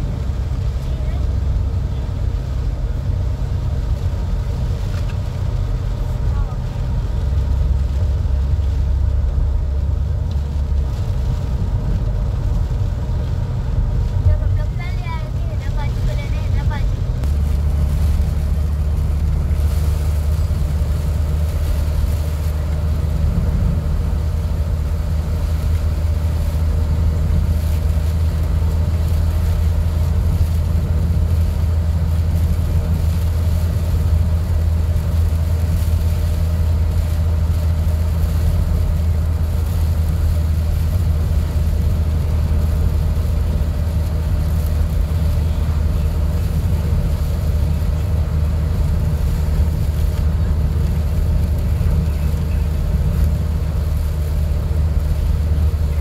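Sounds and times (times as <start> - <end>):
car cabin engine and road noise: 0.0 - 56.0.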